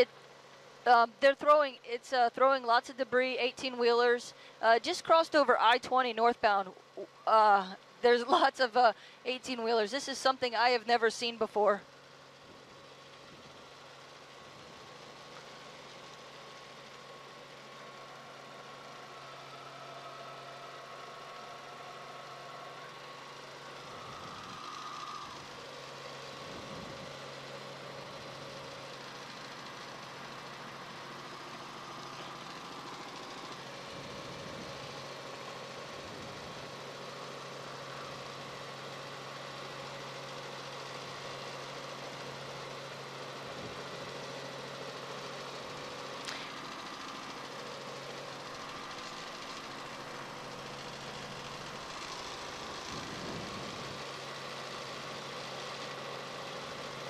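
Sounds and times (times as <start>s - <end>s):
helicopter engine drone: 0.0s - 57.0s
humming tones over hiss: 0.8s - 44.8s, 45.8s - 57.0s.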